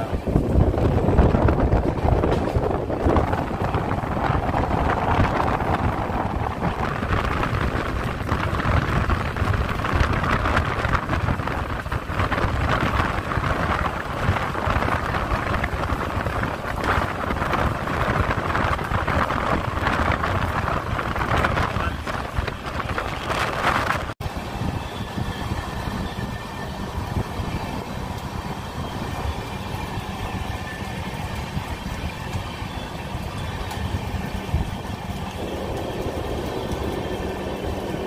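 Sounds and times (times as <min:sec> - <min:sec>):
moving passenger train: 0:00.0 - 0:38.0
wind on microphone: 0:00.0 - 0:38.0.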